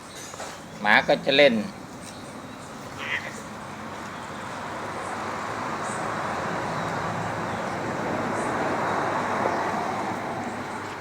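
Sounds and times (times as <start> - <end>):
road vehicle passing: 0.4 - 11.0.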